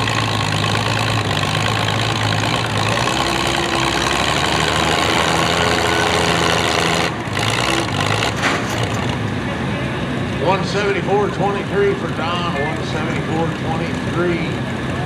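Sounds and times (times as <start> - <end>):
tractor engine running loudly: 0.0 - 15.0.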